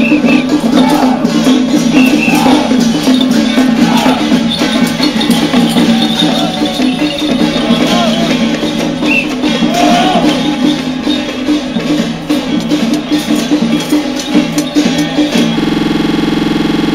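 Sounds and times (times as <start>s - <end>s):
cymbals: 0.0s - 16.8s
drums: 0.0s - 16.9s
gongs: 0.0s - 16.9s.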